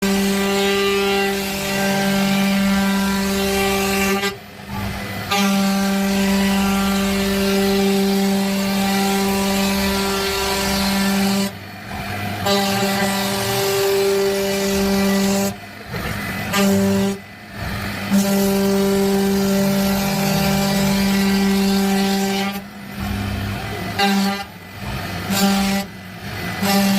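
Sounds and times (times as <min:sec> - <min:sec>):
router spindle cutting wood: 0:00.0 - 0:26.9.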